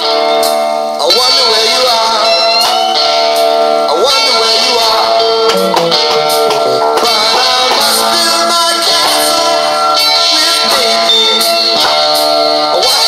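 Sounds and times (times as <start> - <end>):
song with guitar: 0.0 - 13.0.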